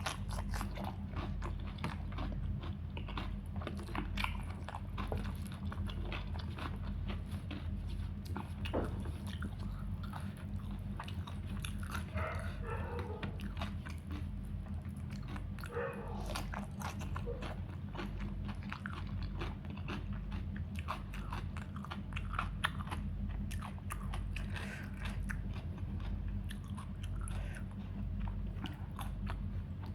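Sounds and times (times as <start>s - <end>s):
chewing with crisp crunches: 0.0s - 29.9s
low hum: 0.0s - 29.9s.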